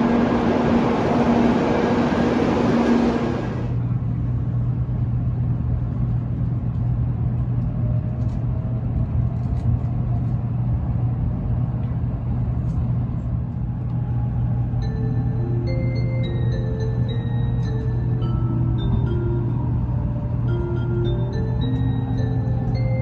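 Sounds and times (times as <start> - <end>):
train running hum and rumble: 0.0 - 23.0.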